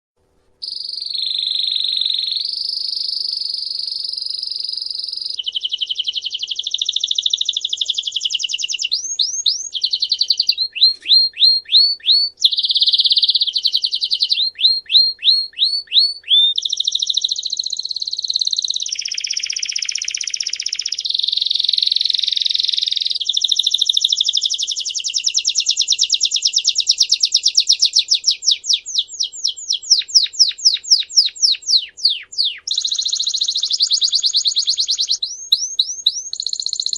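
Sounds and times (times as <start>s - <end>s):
songbird trilling: 0.6s - 36.9s.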